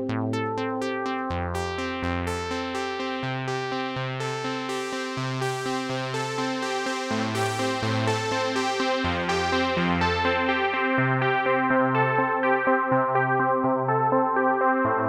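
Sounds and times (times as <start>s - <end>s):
synthesizer bass line: 0.0s - 15.0s
synthesizer keyboard chords: 0.0s - 15.0s.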